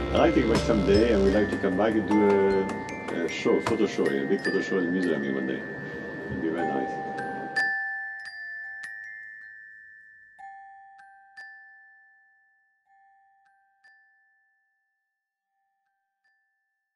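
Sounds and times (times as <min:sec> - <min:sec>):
bell-like notes ringing: 0:00.0 - 0:14.6.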